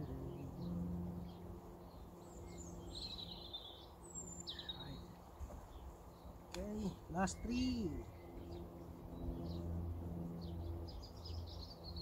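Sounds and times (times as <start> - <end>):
bird trill: 0.0 - 9.7
birds chirping: 0.0 - 12.0
low hum: 0.0 - 12.0.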